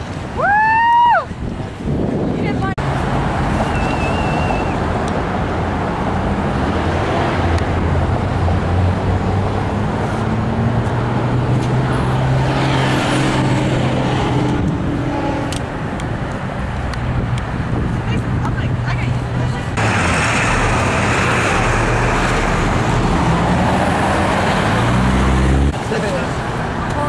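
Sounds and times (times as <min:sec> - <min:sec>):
car engines and tyre noise: 0:00.0 - 0:27.0
vehicle passing: 0:02.6 - 0:26.9.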